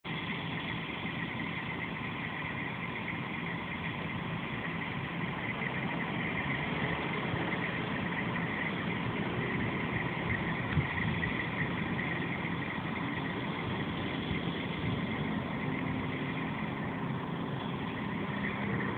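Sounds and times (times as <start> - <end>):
truck engines idling: 0.0 - 18.9.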